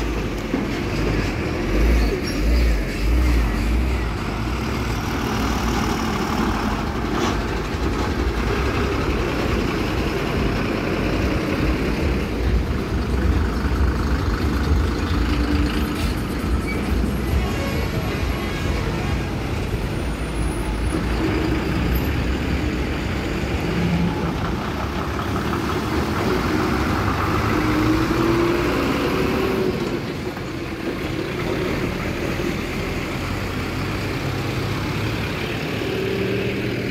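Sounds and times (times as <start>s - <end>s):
heavy trucks passing: 0.0s - 36.9s
tyre and road noise: 0.0s - 36.9s.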